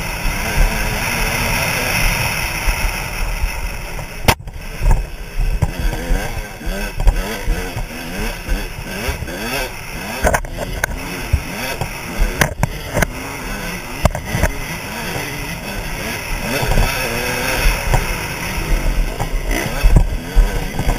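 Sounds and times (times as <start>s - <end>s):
dirt bike engine revving: 0.0s - 20.9s
bike knocking on bumps: 3.9s - 20.9s.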